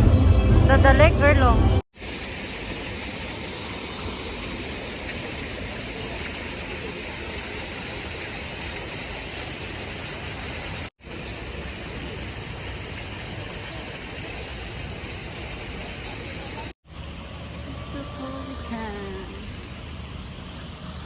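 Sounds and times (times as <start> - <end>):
rushing water: 1.9 - 21.0.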